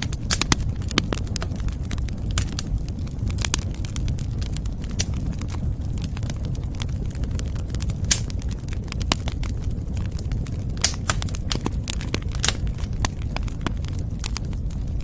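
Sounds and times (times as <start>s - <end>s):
low rumble of burning: 0.0s - 15.0s
wood fire crackling: 0.0s - 15.0s.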